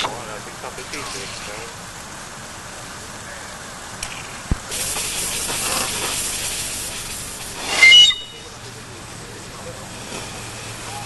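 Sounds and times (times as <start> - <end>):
steam hissing: 0.0 - 2.6, 3.8 - 11.0
loud high steam hiss: 0.0 - 11.0.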